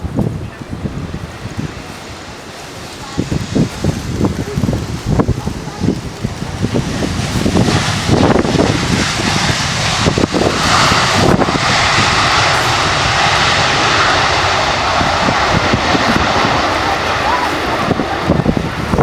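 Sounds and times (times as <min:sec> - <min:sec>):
airliner engines roaring: 0:00.0 - 0:19.0
wind buffeting microphone: 0:00.0 - 0:19.0.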